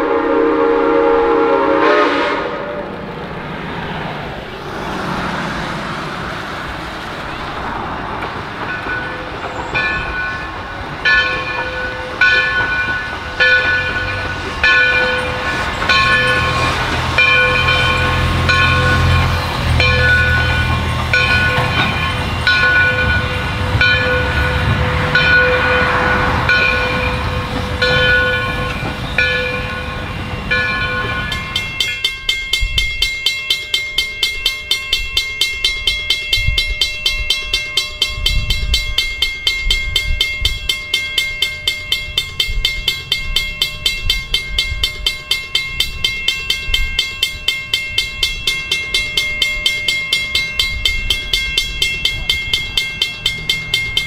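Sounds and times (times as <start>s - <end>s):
train rumble: 0.0s - 54.0s
crossing bell clanging rapidly: 4.6s - 54.0s
steam train bell ringing: 7.2s - 54.0s.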